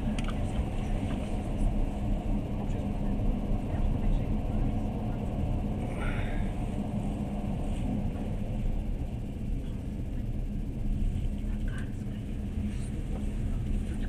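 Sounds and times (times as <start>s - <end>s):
constant hum: 0.0s - 14.0s
train rumble inside carriage: 0.0s - 14.0s.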